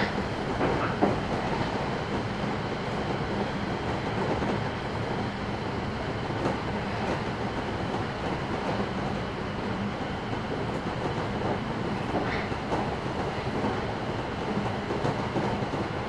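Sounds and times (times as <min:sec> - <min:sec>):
train wheels rattling on rails: 0:00.0 - 0:16.0.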